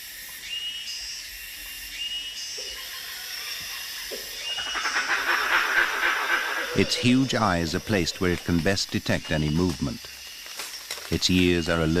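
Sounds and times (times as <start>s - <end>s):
insects and birds calling: 0.0s - 12.0s.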